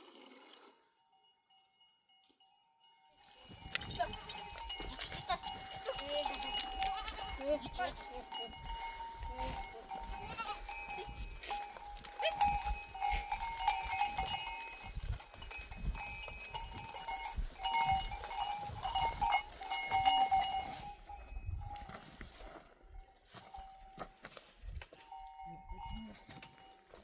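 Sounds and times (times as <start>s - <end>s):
goat bells clanking: 1.0s - 27.0s.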